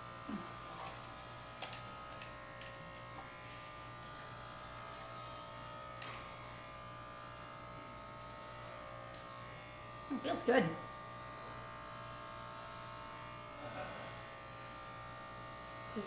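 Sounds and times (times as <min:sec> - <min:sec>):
electric hair clippers running: 0:00.0 - 0:16.0.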